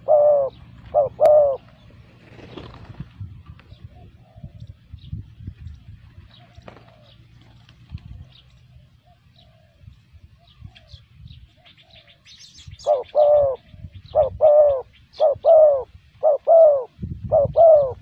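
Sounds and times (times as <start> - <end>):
dove cooing: 0.0 - 2.8, 3.7 - 4.9, 6.3 - 18.0.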